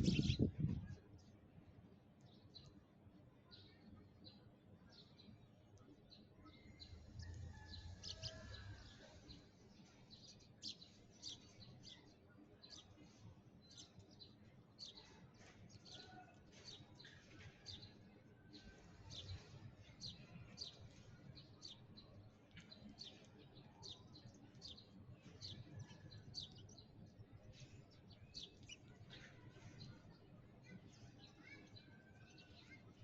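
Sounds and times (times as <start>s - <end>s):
sparrows chirping: 0.0s - 1.2s, 6.1s - 18.0s, 18.6s - 33.0s.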